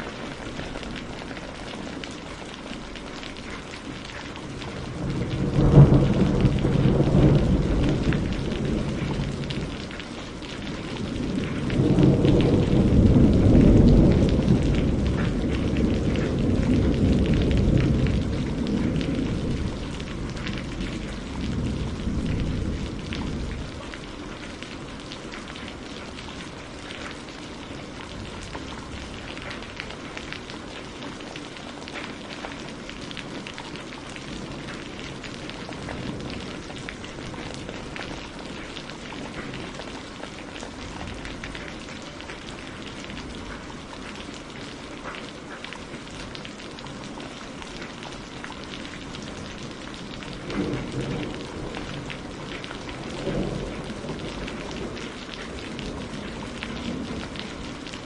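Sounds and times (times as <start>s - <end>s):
low rumble of thunder: 0.0s - 58.0s
steady rain falling: 0.0s - 58.0s.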